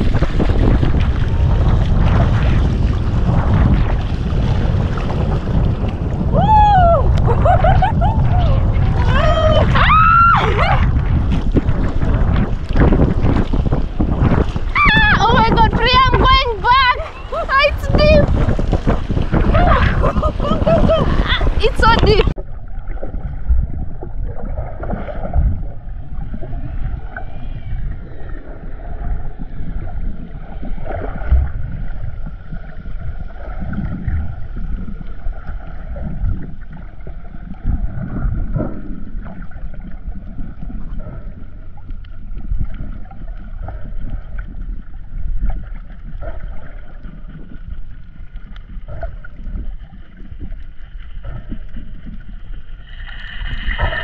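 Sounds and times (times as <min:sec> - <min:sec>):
underwater low rumble: 0:00.0 - 0:54.0.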